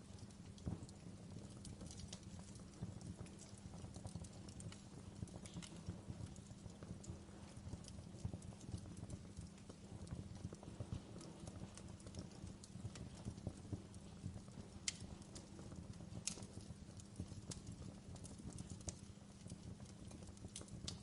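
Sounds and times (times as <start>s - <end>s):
fire crackling and popping: 0.0s - 21.0s
flames rushing: 0.0s - 21.0s.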